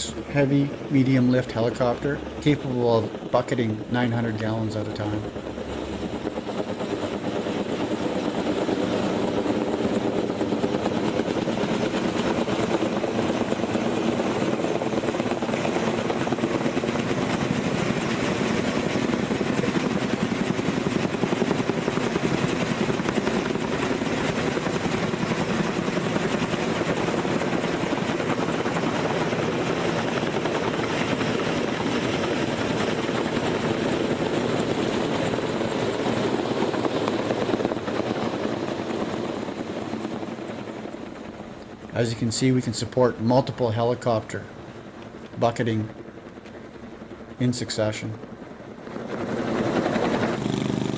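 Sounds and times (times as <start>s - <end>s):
helicopter engine drone: 0.0s - 50.9s
helicopter rotor beat: 0.0s - 50.9s.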